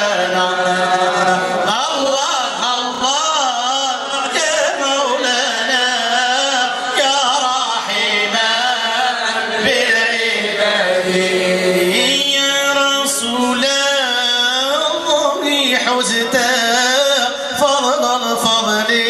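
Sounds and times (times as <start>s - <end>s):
man singing devotional melismas: 0.0s - 19.0s.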